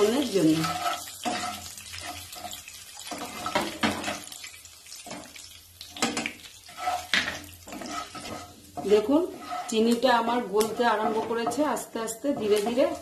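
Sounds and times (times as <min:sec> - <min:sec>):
wooden spatula scraping pan: 0:00.0 - 0:04.4, 0:06.0 - 0:13.0
spices sizzling in hot oil: 0:00.0 - 0:13.0.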